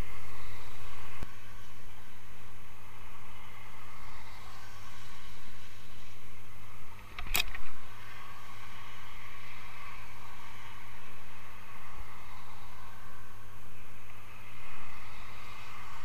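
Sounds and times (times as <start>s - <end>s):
motorway traffic: 0.0s - 16.0s.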